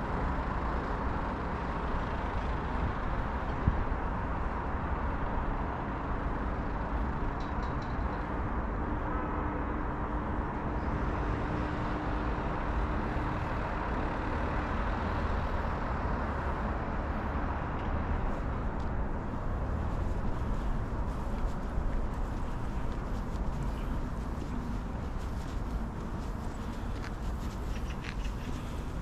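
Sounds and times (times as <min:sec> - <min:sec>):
city road traffic rumble: 0:00.0 - 0:29.0.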